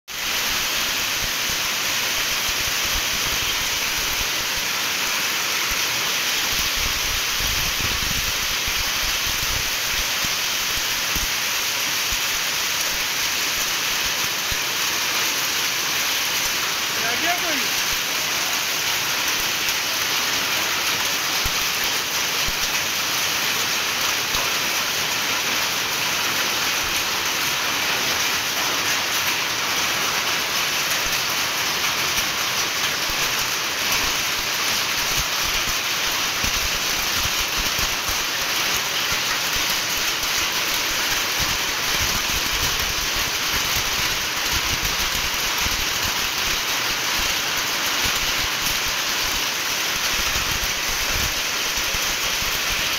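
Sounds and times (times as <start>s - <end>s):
heavy rain splashing on pavement: 0.1s - 52.9s.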